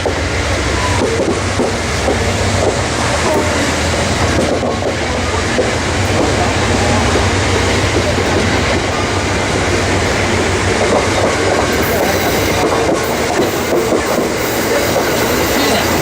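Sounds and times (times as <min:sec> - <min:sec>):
clickety-clack over rail joints: 0:00.0 - 0:16.0
train wheels rumbling on rail: 0:00.0 - 0:16.0.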